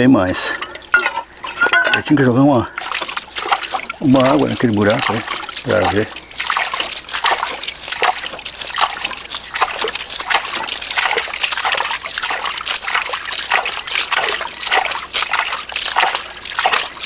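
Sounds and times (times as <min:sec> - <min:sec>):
water splashing into mud: 0:00.0 - 0:17.0.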